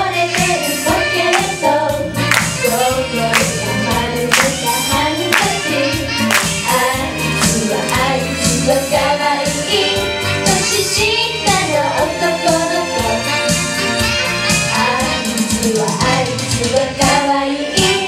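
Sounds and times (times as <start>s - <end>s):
pop backing music with beat: 0.0s - 18.0s
women singing pop song: 0.0s - 18.0s.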